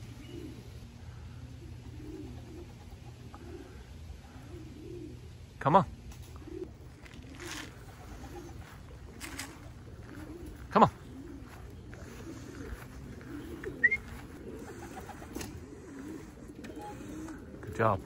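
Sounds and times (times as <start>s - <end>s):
loud pigeon call: 0.0s - 18.0s
pigeons cooing: 0.0s - 18.0s.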